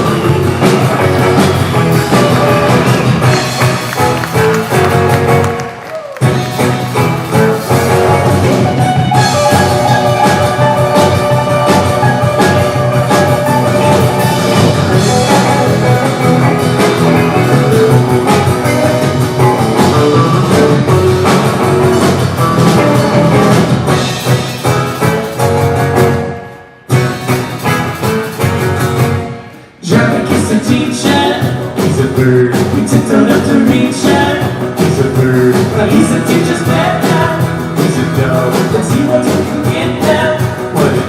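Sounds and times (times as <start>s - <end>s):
live band playing instrumental: 0.0s - 41.0s.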